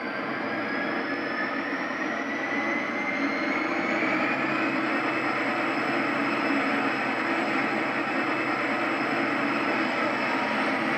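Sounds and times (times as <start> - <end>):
diesel locomotive engine through small speakers: 0.0 - 10.9.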